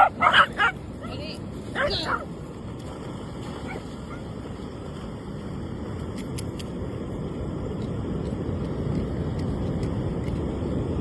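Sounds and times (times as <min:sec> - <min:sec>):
surf: 0:00.0 - 0:11.0.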